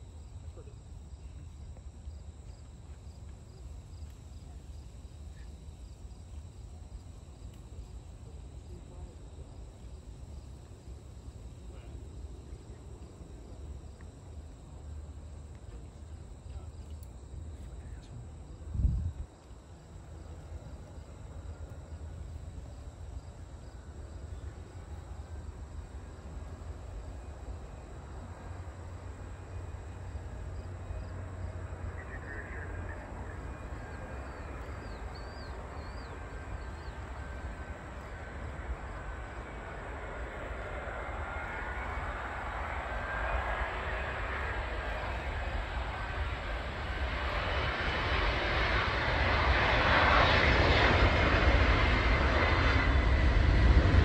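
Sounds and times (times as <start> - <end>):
faint insect chirps: 0.0 - 53.0
jet engine whine and rumble: 0.0 - 54.0
steady low rumble: 0.0 - 54.0.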